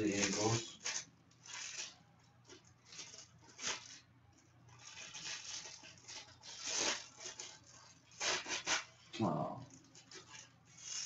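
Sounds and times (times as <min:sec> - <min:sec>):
plastic wrapper tearing and rustling: 0:00.0 - 0:11.0.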